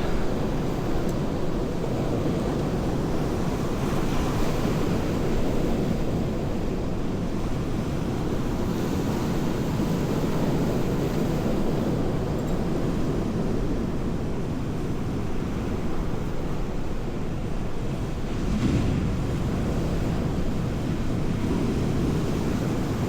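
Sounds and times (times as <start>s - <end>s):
sea surf: 0.0s - 23.0s.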